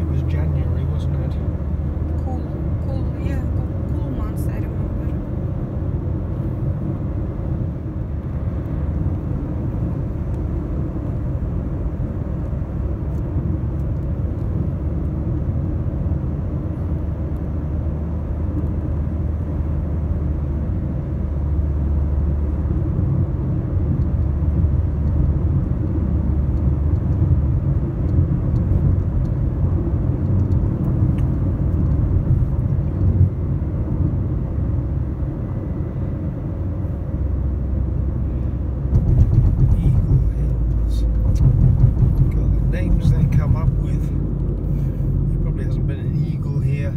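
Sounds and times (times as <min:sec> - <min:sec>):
car engine and tyres rumbling: 0:00.0 - 0:46.9.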